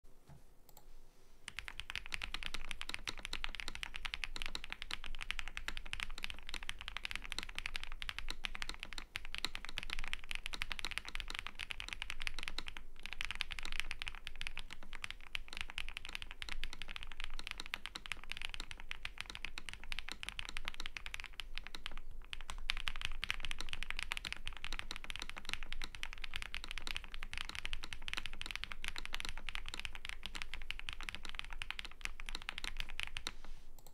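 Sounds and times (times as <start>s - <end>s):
typing on mechanical keyboard: 1.5s - 33.9s.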